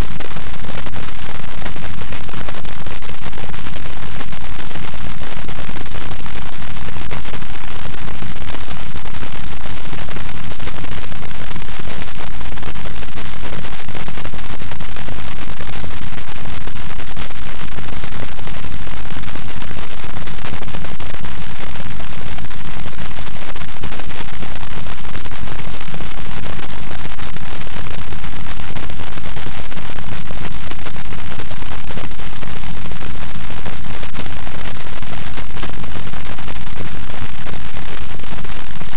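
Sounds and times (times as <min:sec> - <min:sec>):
loud static hiss: 0:00.0 - 0:38.9.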